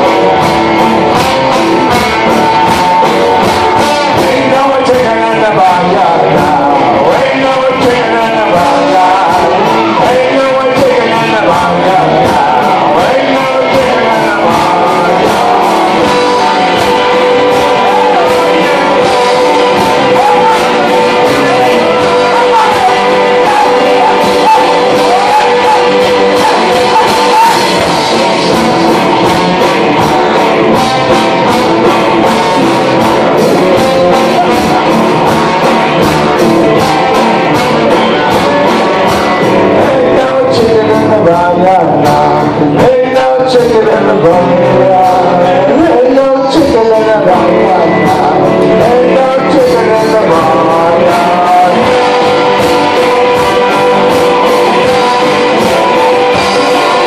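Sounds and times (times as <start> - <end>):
acoustic guitar: 0.0 - 57.0
drums: 0.0 - 57.0
person singing: 0.0 - 57.0.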